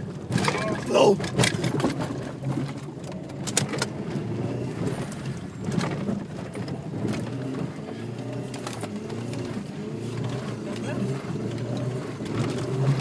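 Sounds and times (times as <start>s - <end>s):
car engine running inside cabin: 0.0s - 13.0s
car knocking and clattering: 0.0s - 13.0s.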